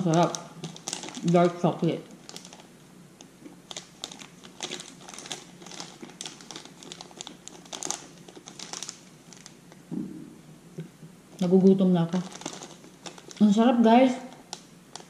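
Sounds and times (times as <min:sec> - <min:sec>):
wrapper crackling: 0:00.0 - 0:02.8, 0:03.5 - 0:09.8, 0:11.4 - 0:15.0.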